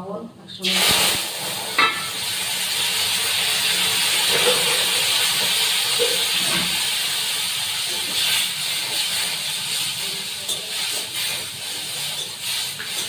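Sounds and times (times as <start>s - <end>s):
shrimp sizzling in hot oil: 0.6s - 13.0s.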